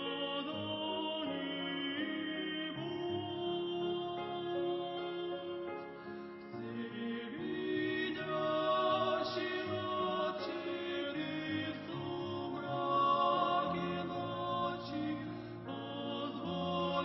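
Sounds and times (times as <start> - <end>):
choir singing a slow hymn: 0.0 - 17.0.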